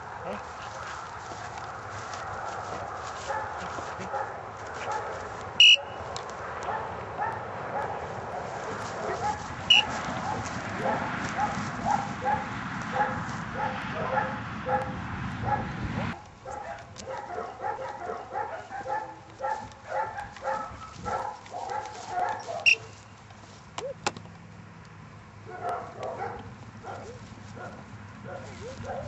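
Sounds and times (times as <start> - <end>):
dog barking: 2.4 - 6.0, 6.6 - 22.9, 25.4 - 29.0.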